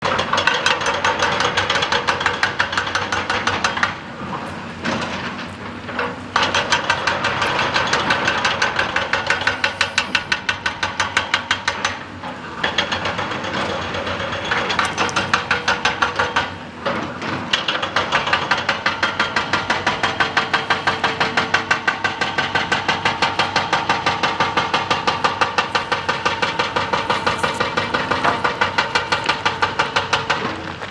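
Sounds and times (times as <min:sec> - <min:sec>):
excavator engine: 0:00.0 - 0:30.9
hydraulic rock breaker hammering: 0:00.0 - 0:30.9.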